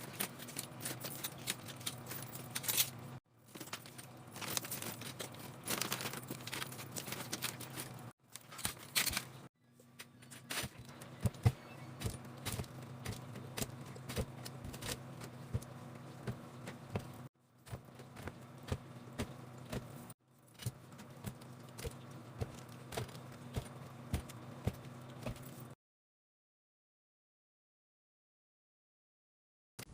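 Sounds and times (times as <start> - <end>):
low steady hum: 0.0 - 25.8
packages clicking and clinking: 0.0 - 25.8.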